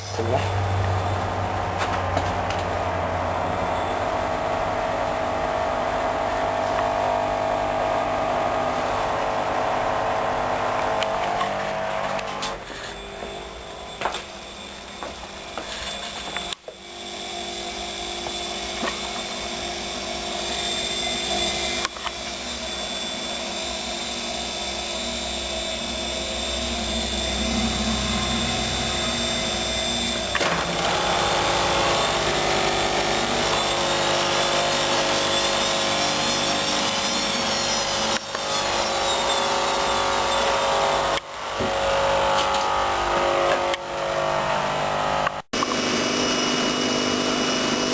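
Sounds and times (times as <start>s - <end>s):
washing machine motor whine: 0.0s - 47.9s.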